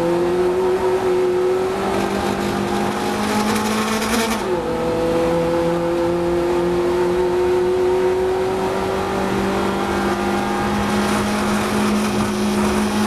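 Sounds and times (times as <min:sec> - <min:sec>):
race car droning whine: 0:00.0 - 0:13.0.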